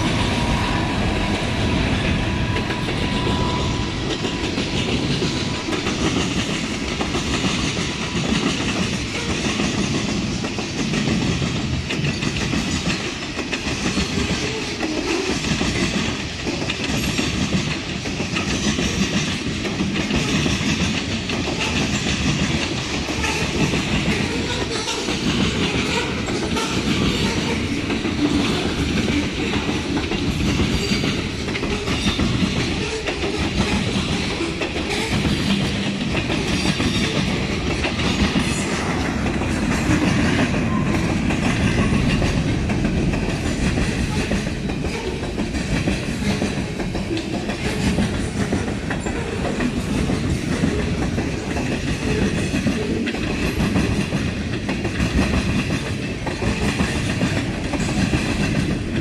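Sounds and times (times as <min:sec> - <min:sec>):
train wheels rumbling on rail: 0:00.0 - 0:59.0
wheels clicking over rail joints: 0:04.0 - 0:59.0.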